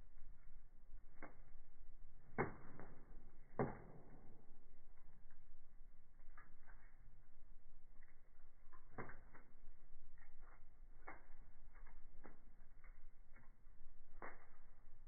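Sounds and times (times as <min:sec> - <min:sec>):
burning logs rumbling: 0:00.0 - 0:15.0
wood fire crackling: 0:00.0 - 0:15.0.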